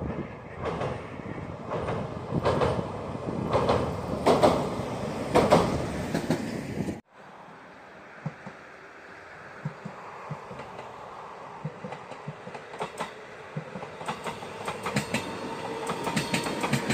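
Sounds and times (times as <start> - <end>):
wheels beating over rail joints: 0.0 - 7.0, 8.1 - 16.9
train rumbling over steel bridge: 0.0 - 16.9.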